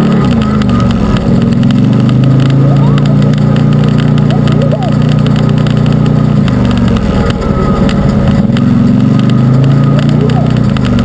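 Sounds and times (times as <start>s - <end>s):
utv engine revving: 0.0s - 11.0s.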